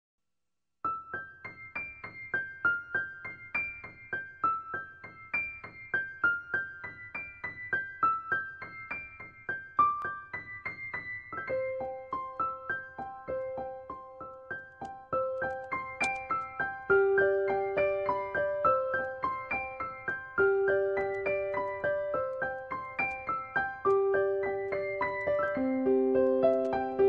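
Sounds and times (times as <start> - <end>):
gentle piano melody: 0.8 - 27.0.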